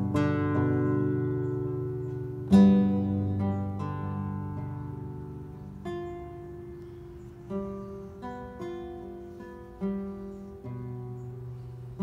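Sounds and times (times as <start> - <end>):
slow plucked guitar melody: 0.0 - 12.0.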